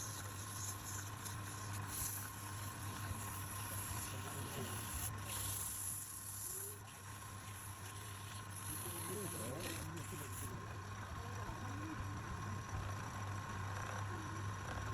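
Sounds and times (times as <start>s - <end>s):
lathe humming: 0.0s - 14.9s.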